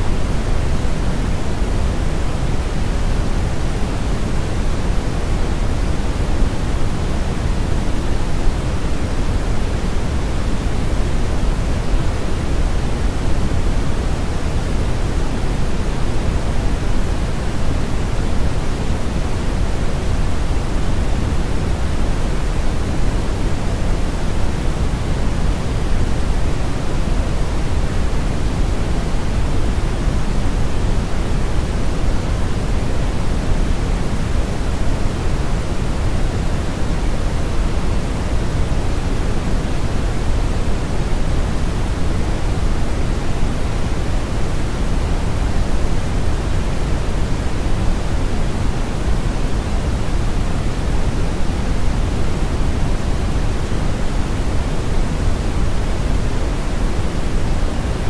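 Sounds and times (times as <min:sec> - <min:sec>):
brown noise rumbling hiss: 0:00.0 - 0:58.0.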